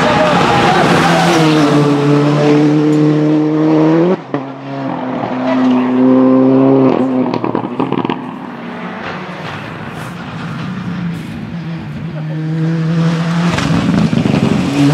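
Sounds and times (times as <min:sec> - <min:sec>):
turbocharged engine at full throttle: 0:00.0 - 0:14.9.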